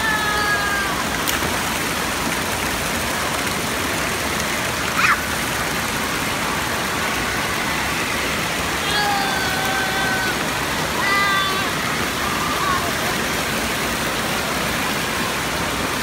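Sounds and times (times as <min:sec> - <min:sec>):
fountain water rushing: 0:00.0 - 0:16.0.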